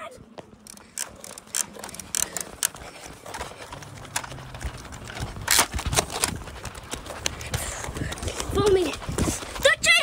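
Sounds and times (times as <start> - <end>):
running footsteps: 0.0 - 10.0.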